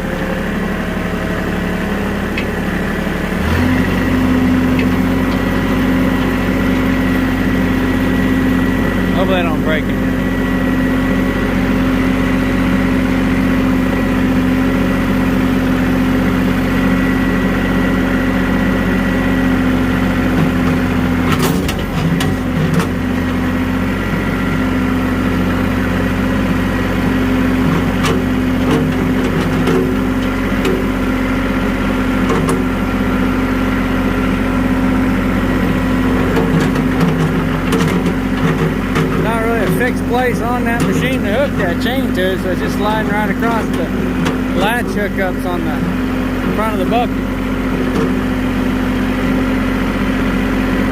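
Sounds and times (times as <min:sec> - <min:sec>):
vehicle engine running under load: 0:00.0 - 0:50.9.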